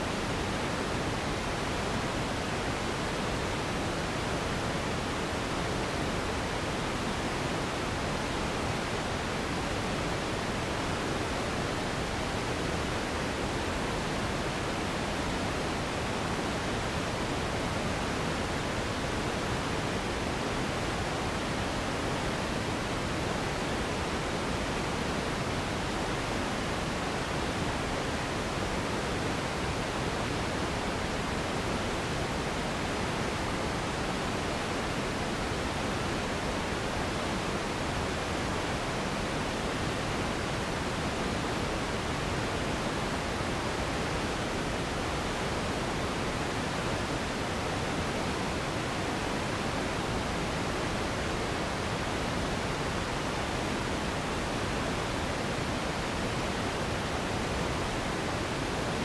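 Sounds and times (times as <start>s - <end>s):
steady pink noise hiss: 0.0s - 59.0s.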